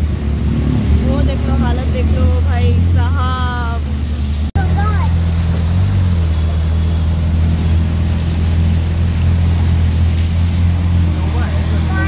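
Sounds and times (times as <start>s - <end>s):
vehicle engine droning: 0.0s - 12.0s
water rushing: 0.0s - 12.0s.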